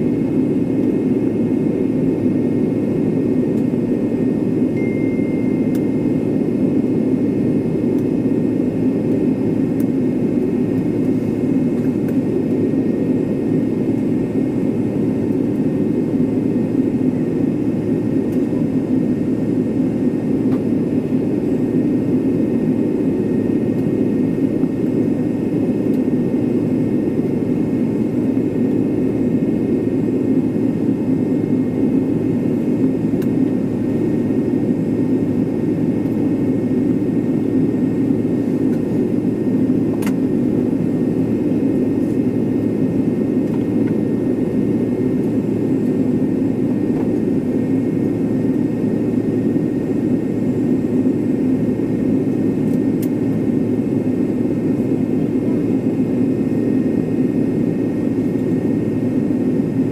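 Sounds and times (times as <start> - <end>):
airliner cabin engine rumble: 0.0 - 59.9
faint steady engine whine: 0.0 - 59.9.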